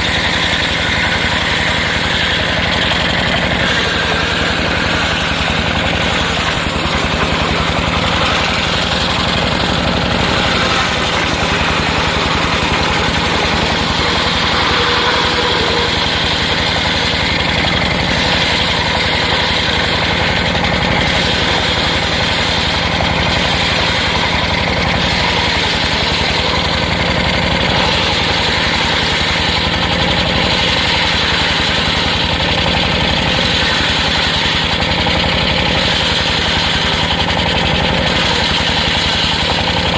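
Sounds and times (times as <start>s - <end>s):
circular saw whirring: 0.0s - 39.9s
sawmill engine drumming: 0.0s - 39.9s.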